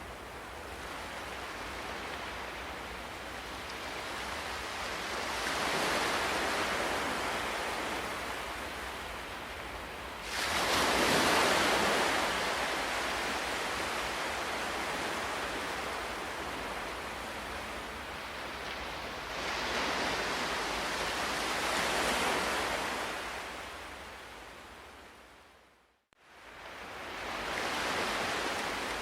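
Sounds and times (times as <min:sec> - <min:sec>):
ocean waves breaking on shore: 0:00.0 - 0:25.5, 0:26.2 - 0:29.0.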